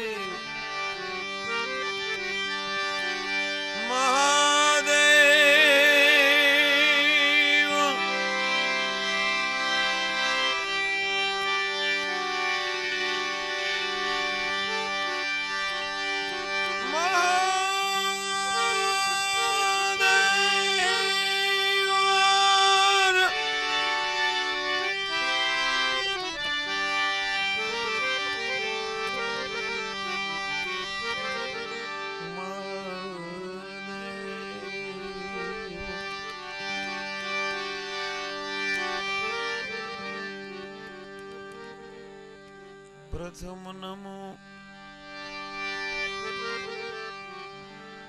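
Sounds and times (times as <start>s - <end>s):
harmonium chords: 0.0s - 48.0s.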